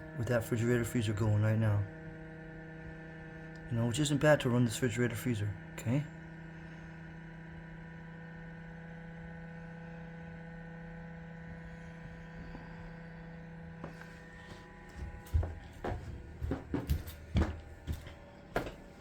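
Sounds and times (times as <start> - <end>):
fridge compressor hum: 0.0 - 19.0.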